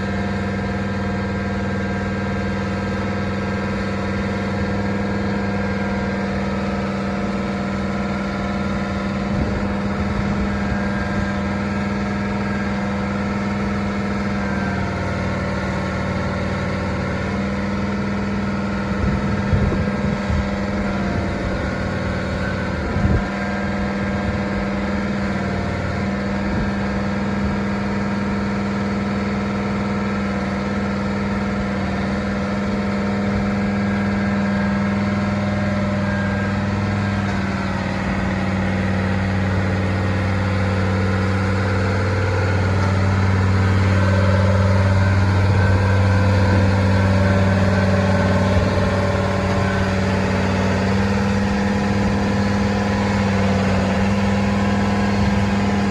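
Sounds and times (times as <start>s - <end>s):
engine idling hum: 0.0s - 55.9s.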